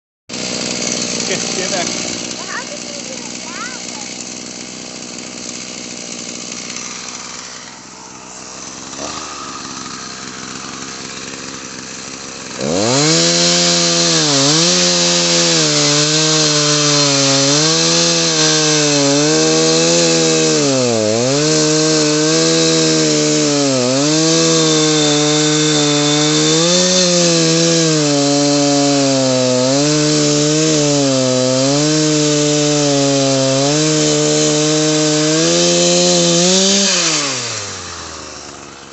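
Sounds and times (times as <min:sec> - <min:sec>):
chainsaw cutting wood: 0:00.3 - 0:38.9.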